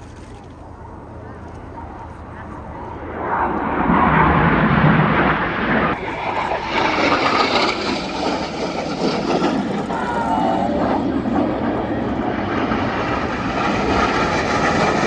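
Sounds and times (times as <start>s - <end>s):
jets flying past: 0.6s - 15.0s
falling jet whine: 1.1s - 15.0s.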